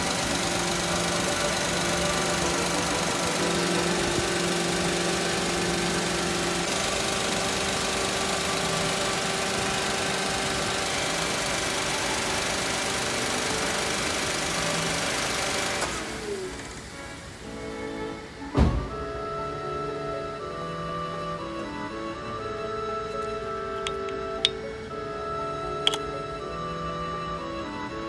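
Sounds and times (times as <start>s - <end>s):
car engine idling: 0.0s - 26.4s.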